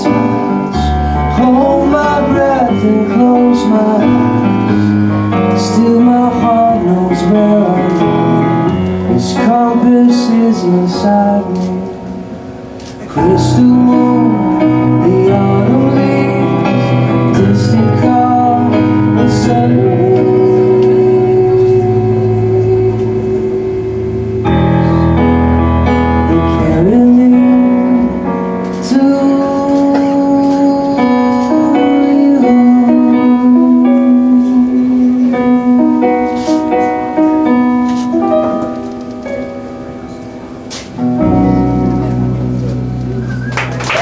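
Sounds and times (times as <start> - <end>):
bass guitar: 0.0 - 39.0, 40.1 - 44.0
small band playing soft song: 0.0 - 44.0.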